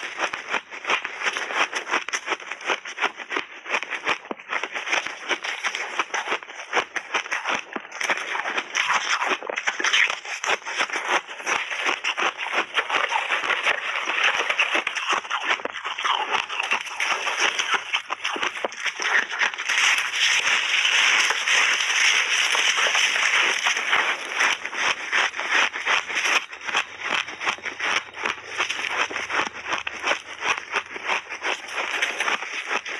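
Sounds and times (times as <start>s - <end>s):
ice crunching being chewed: 0.0s - 32.9s.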